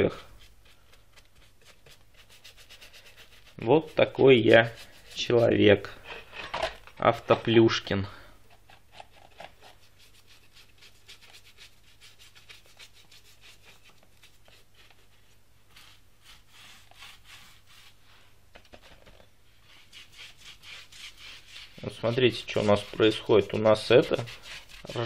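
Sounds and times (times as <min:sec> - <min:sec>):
brush scrubbing metal rim: 0:00.0 - 0:06.4, 0:08.5 - 0:18.0, 0:19.6 - 0:25.0.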